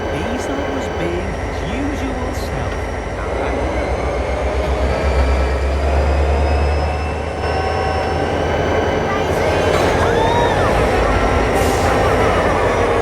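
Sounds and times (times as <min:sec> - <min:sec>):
diesel locomotive engine rumble: 0:00.0 - 0:13.0
faint high whine: 0:00.0 - 0:13.0.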